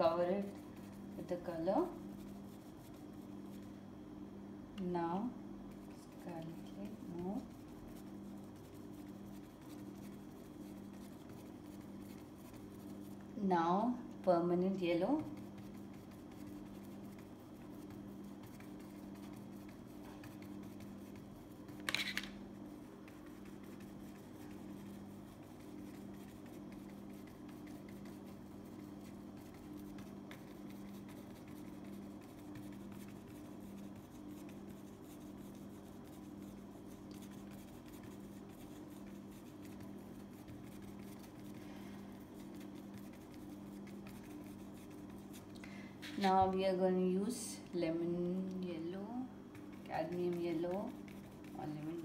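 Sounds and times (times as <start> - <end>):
paintbrush scratching on canvas: 0.0 - 3.8, 5.7 - 13.3, 15.0 - 41.6, 42.2 - 45.5, 48.9 - 52.0
steady low hum: 0.0 - 52.0.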